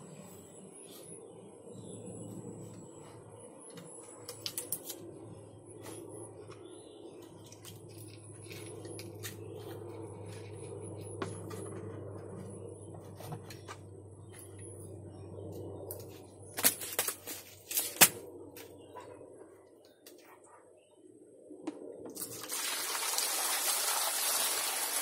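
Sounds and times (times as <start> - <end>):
steady low hum: 0.0 - 22.4.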